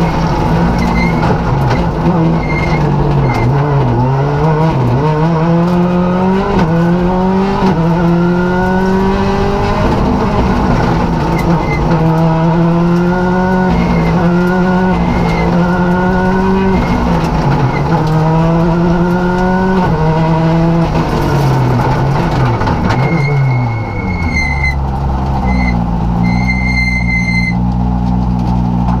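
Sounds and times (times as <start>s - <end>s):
car engine accelerating and idling: 0.0s - 29.0s.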